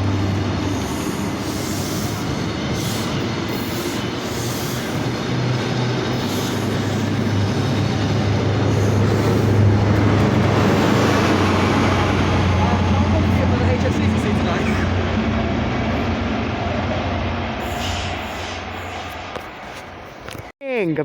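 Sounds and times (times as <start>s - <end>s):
diesel train engine humming: 0.0s - 20.1s.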